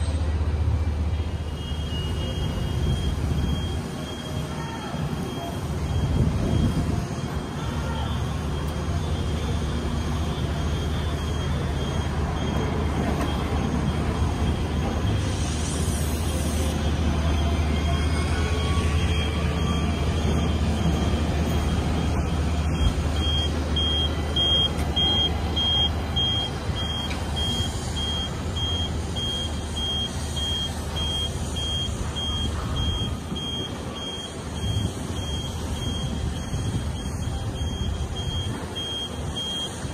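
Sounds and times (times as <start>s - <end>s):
tram hum: 0.0s - 39.9s
high electronic beeping: 2.2s - 7.5s, 8.2s - 15.2s, 18.7s - 39.9s.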